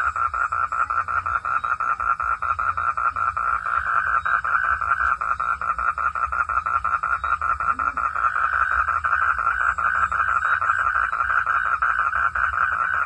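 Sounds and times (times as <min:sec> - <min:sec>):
frogs croaking in chorus: 0:00.0 - 0:13.0.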